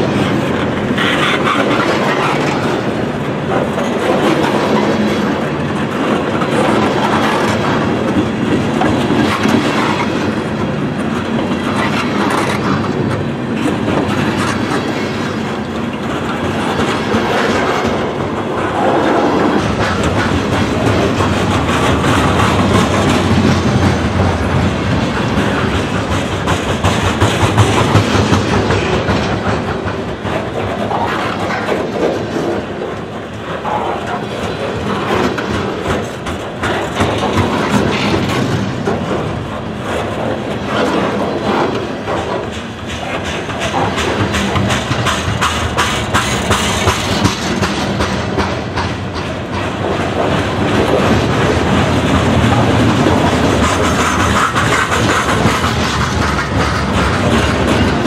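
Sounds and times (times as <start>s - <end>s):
freight cars clattering over rails: 0.0s - 58.0s.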